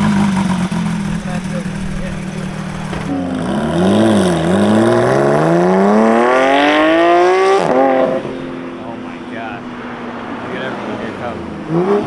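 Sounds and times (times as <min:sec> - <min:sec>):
sports car engine accelerating: 0:00.0 - 0:12.0.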